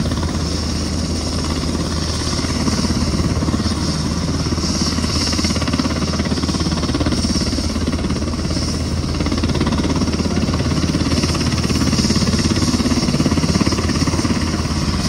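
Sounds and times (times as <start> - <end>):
helicopter rotor thudding: 0.0 - 15.0.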